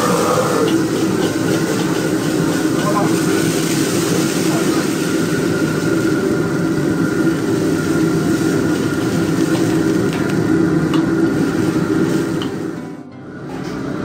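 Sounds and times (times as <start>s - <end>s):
gas burner rumbling: 0.0s - 14.0s.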